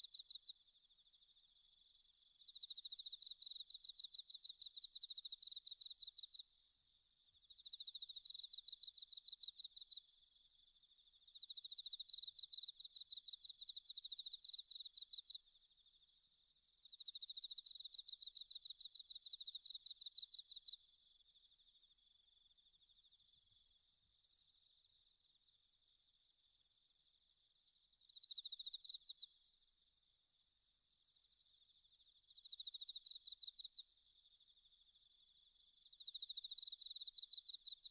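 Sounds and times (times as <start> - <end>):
insect chirping trills: 0.0 - 37.9.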